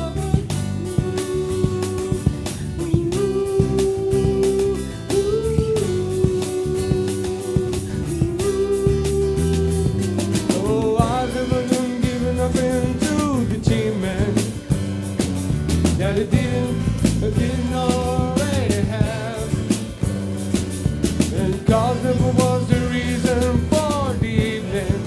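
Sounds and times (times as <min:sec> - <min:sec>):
man singing: 0:00.0 - 0:15.0, 0:15.8 - 0:20.2, 0:21.1 - 0:25.0
bass guitar: 0:00.0 - 0:25.0
percussion: 0:00.0 - 0:25.0
strummed acoustic guitar: 0:00.0 - 0:25.0.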